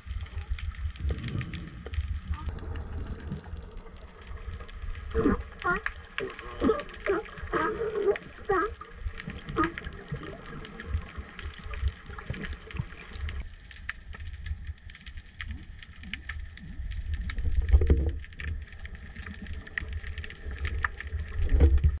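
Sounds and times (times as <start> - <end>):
faint crackling clicks: 0.0 - 22.0
underwater rushing rumble: 0.0 - 22.0.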